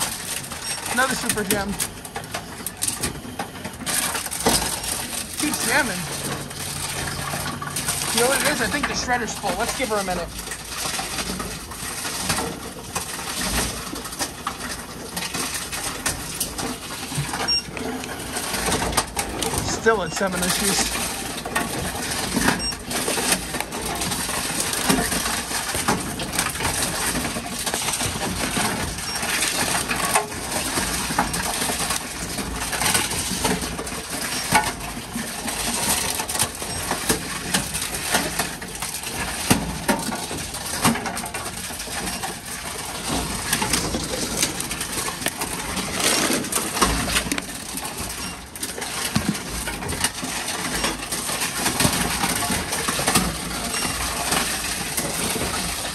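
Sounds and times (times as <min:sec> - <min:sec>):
containers clattering and crushing: 0:00.0 - 0:55.9
steady machine noise: 0:00.0 - 0:55.9.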